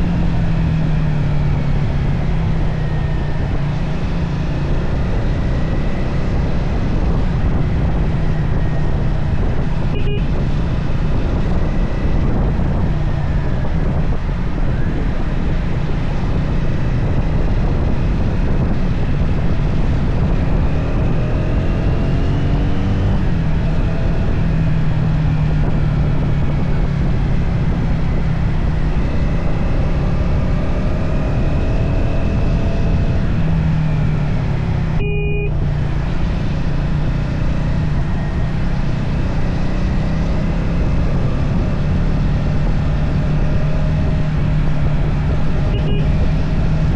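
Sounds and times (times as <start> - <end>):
motorcycle engine rumble: 0.0 - 46.9
wind rushing over microphone: 0.0 - 46.9.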